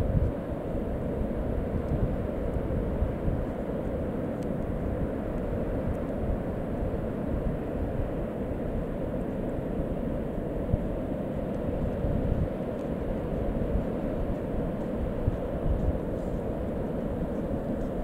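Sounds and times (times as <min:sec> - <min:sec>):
distant surf rushing: 0:00.0 - 0:18.0
wind buffeting microphone: 0:00.0 - 0:18.0.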